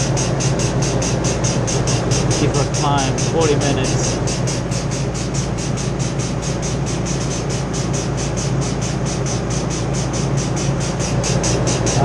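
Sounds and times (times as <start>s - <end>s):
rapid pulsing: 0.0s - 12.0s
refrigeration machine hum: 0.0s - 12.0s.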